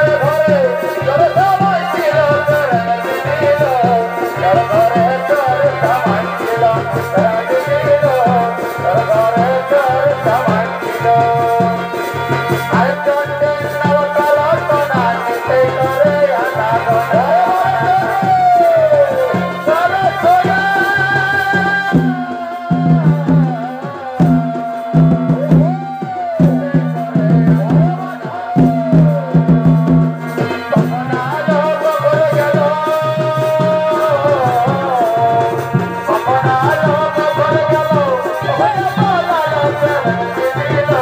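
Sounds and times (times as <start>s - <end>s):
folk drums beating: 0.0s - 41.0s
reed-pipe melody: 0.0s - 41.0s.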